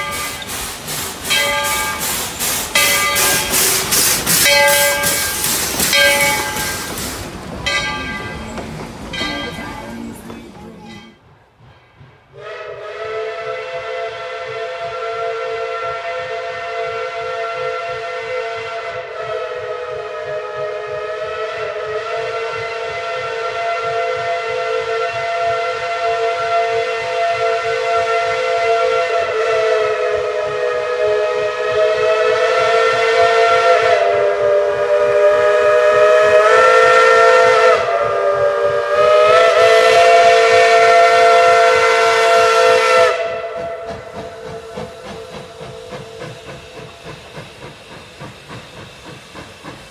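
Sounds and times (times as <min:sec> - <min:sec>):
steam locomotive whistle: 0:00.0 - 0:08.6, 0:12.3 - 0:48.7.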